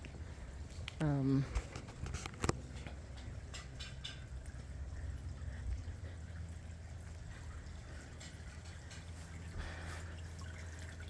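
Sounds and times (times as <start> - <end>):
faint trickling water: 0.0 - 11.0
low steady rumble: 0.0 - 11.0.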